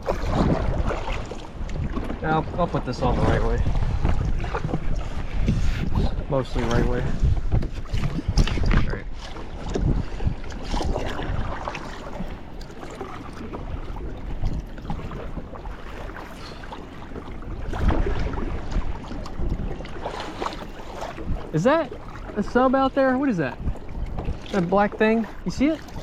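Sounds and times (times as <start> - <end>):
paddle splashing in water: 0.0 - 26.0
wind rumbling on microphone: 0.0 - 26.0.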